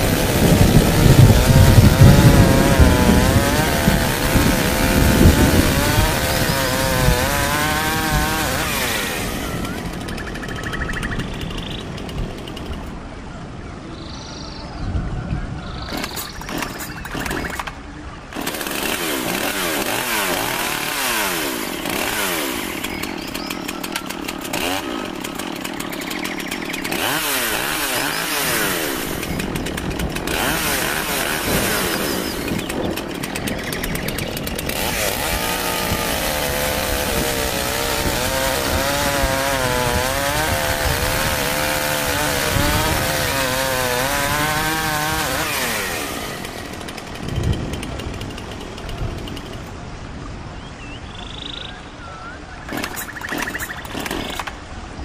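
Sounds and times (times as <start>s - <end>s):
chainsaw revving and cutting: 0.0s - 12.9s, 15.8s - 49.8s, 52.7s - 54.7s.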